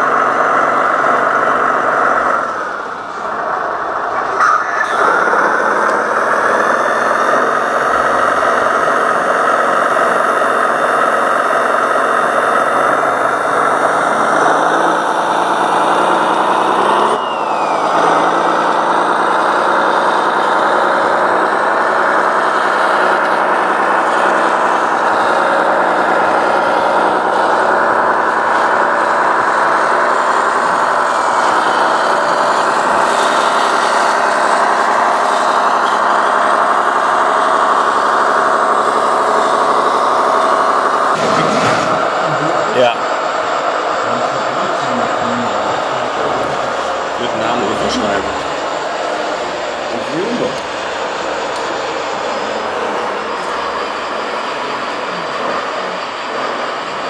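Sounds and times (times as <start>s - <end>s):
toy truck motor drone: 0.0s - 57.0s.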